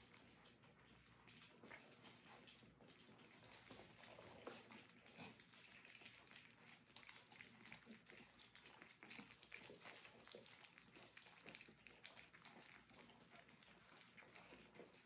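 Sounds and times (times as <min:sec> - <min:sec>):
puppies lapping and smacking food: 0:00.0 - 0:15.0.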